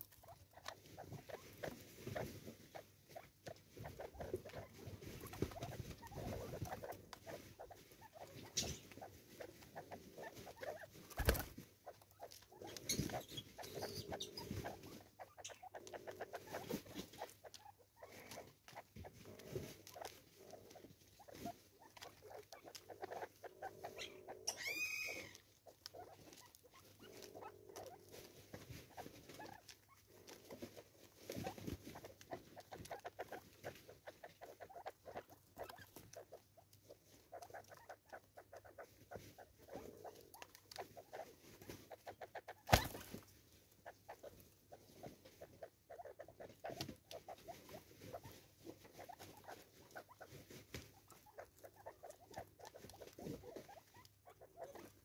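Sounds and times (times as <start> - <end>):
birds pecking at plastic feeder: 0.0 - 55.0
soft low bird clucks: 0.0 - 55.0.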